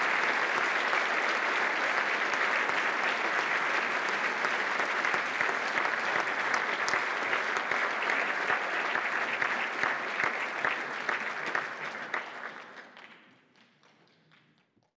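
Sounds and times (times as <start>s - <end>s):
people applauding: 0.0s - 14.9s.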